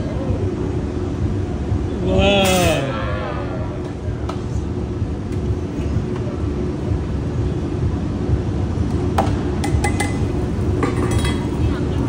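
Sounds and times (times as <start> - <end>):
ventilation fans rumbling: 0.0 - 12.0.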